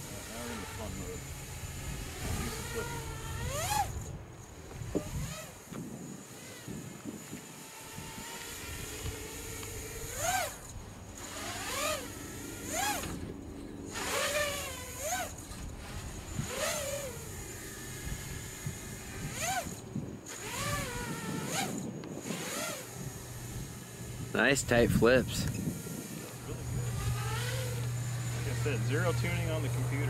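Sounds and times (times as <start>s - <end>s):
quadcopter motors whining: 0.0s - 30.0s.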